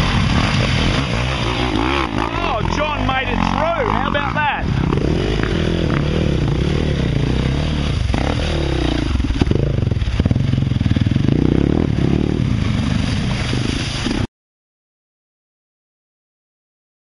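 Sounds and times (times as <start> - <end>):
dirt bike engine revving: 0.0 - 14.3
water splashing: 0.0 - 14.3.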